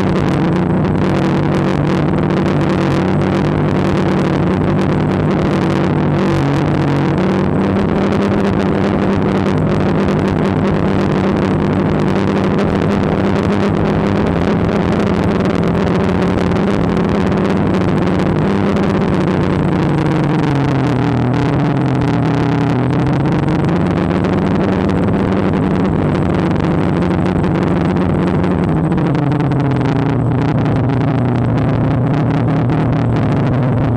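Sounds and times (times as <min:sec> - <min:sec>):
drone propellers whirring: 0:00.0 - 0:33.9
rushing noise: 0:00.0 - 0:33.9.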